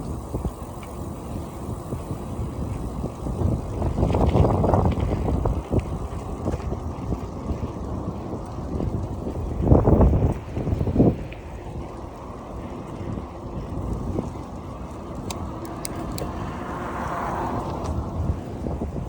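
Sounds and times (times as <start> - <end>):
faint ticks: 0.0 - 18.4
wind buffeting microphone: 0.0 - 19.0.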